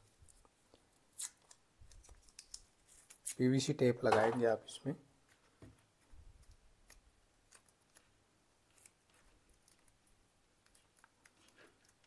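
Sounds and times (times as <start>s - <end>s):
faint clicks and rustles of wires: 0.0s - 3.4s, 5.2s - 12.0s.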